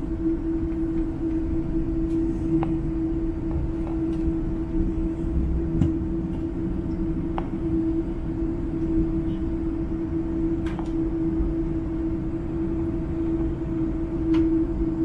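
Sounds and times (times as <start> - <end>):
jet engines idling hum: 0.0 - 15.0.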